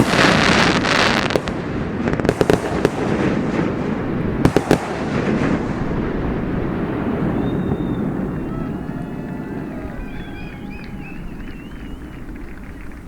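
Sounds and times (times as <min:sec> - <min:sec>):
firework bangs: 0:00.0 - 0:13.0
fireworks crackling: 0:00.0 - 0:13.0.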